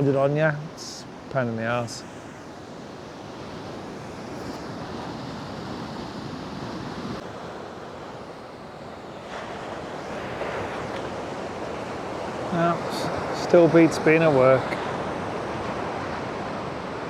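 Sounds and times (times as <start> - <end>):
ocean surf washing onto rocks: 0.0 - 17.0.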